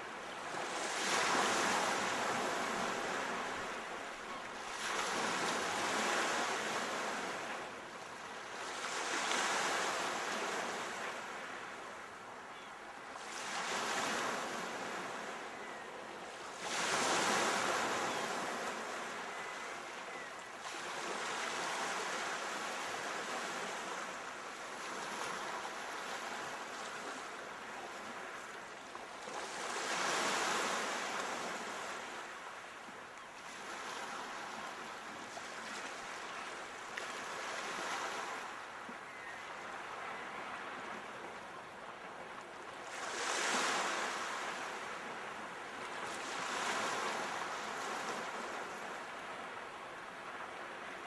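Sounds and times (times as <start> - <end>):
sea waves breaking on shore: 0.0 - 12.3, 13.0 - 51.0.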